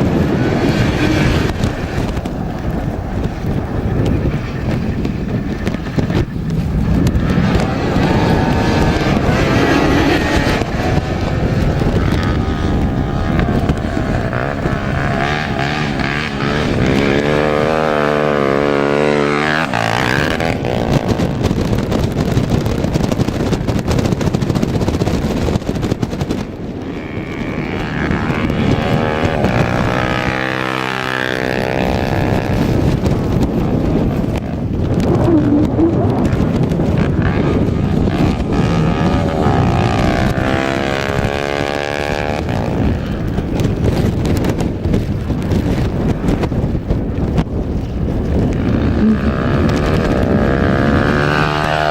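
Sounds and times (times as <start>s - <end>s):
engines passing close: 0.0s - 51.9s
motorcycle engines racing: 0.0s - 51.9s.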